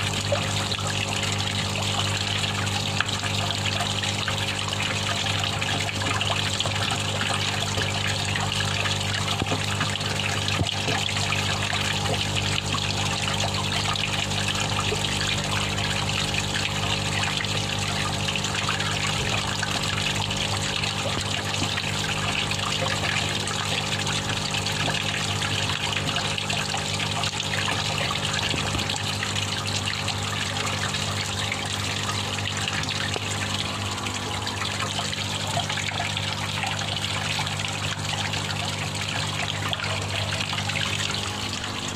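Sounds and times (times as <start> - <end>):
water trickling into fish tank: 0.0 - 41.9.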